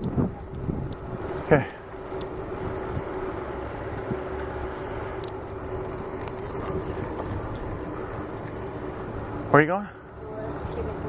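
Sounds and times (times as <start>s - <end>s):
bicycle road and wind noise: 0.0s - 11.0s.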